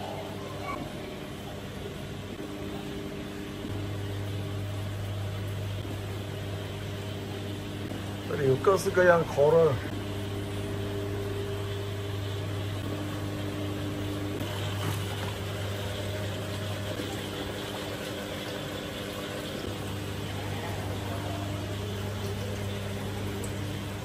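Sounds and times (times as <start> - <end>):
aquarium pumps humming: 0.0 - 24.0.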